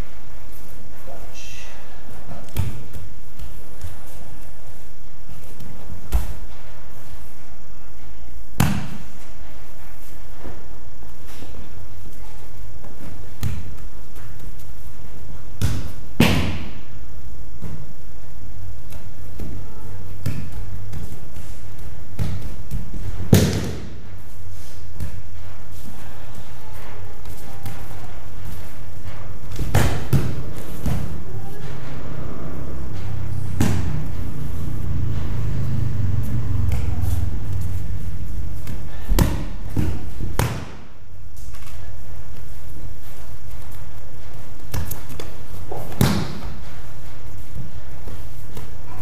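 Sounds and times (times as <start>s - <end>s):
low hum: 0.0s - 49.0s.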